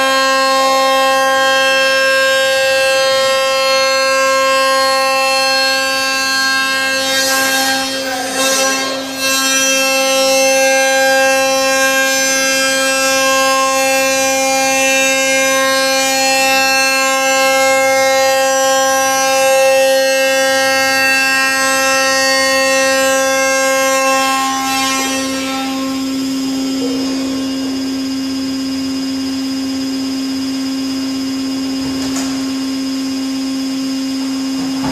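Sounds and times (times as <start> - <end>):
high-pitched milling whine: 0.0 - 34.9.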